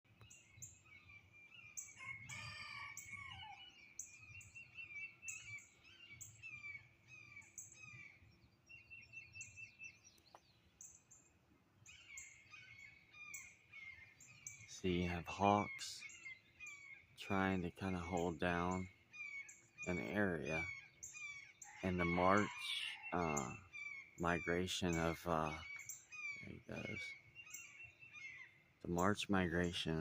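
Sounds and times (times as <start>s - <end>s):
birds chirping and singing: 0.1s - 30.0s
rapid bird trill: 0.1s - 30.0s.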